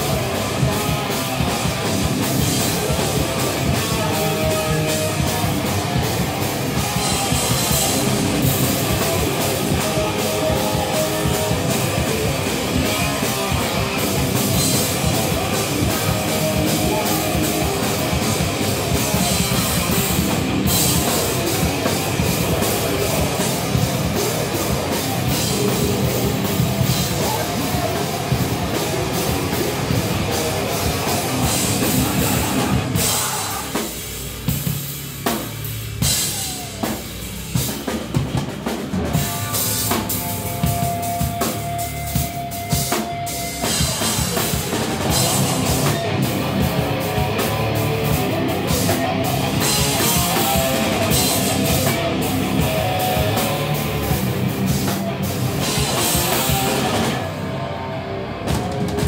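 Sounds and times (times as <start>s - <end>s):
distorted electric guitars: 0.0s - 59.0s
pounding drum kit: 0.0s - 59.0s.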